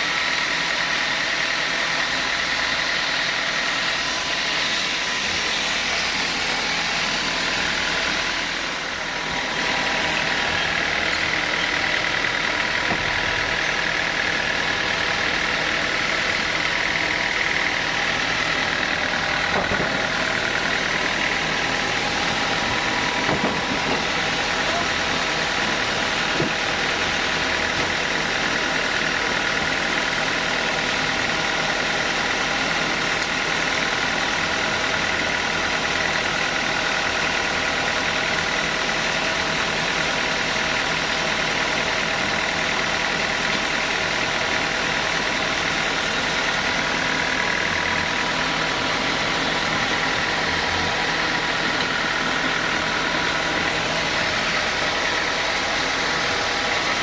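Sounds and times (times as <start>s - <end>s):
sawmill machinery humming and whining: 0.0s - 57.0s.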